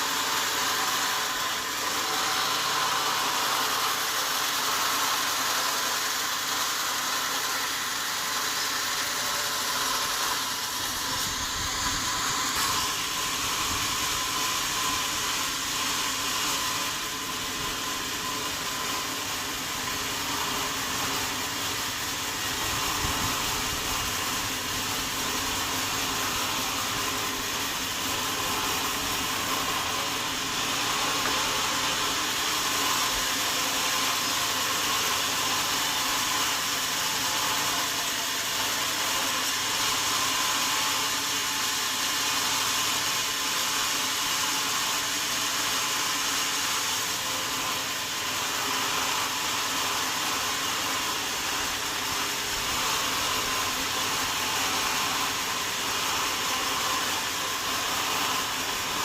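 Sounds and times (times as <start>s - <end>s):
sawmill saw cutting wood: 0.0s - 59.0s.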